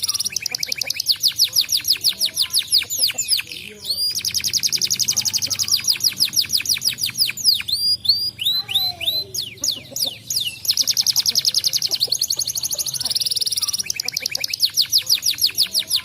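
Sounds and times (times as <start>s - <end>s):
canary singing trills: 0.0s - 16.0s.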